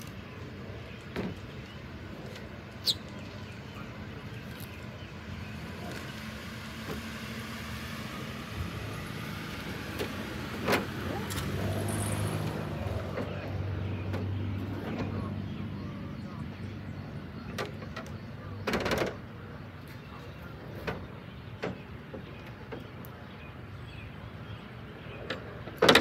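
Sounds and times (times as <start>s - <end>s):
low engine hum: 0.0s - 26.0s
outdoor background noise: 0.0s - 26.0s.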